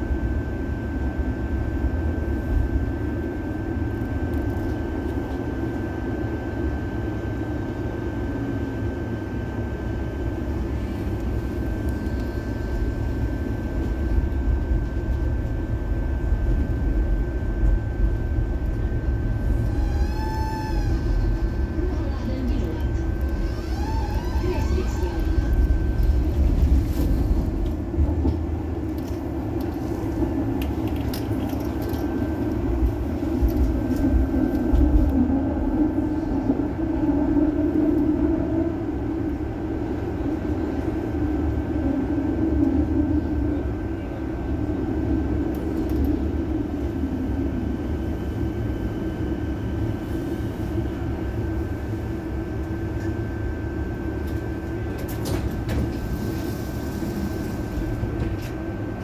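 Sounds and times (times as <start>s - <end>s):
thin steady whine: 0.0s - 55.0s
tram wheels rumbling on rails: 10.3s - 59.0s.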